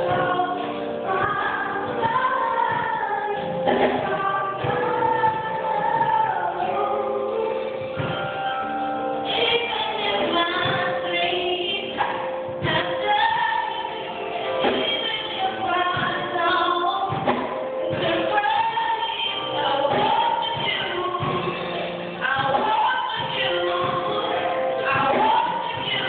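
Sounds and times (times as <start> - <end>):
woman singing into a microphone: 0.0 - 26.0.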